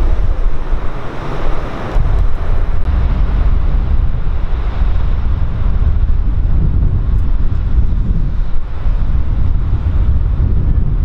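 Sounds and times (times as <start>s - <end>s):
jet engines roaring: 0.0s - 11.0s
wind rumble on microphone: 0.0s - 11.0s.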